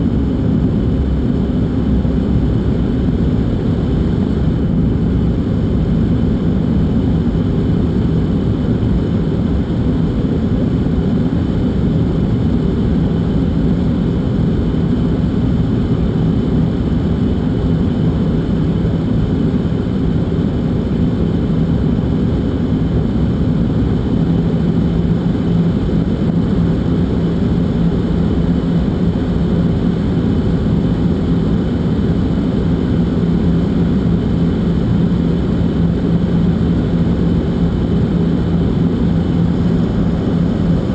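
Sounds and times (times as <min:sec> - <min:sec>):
airliner engines and rushing air: 0:00.0 - 0:40.9
steady cabin hum: 0:00.0 - 0:40.9.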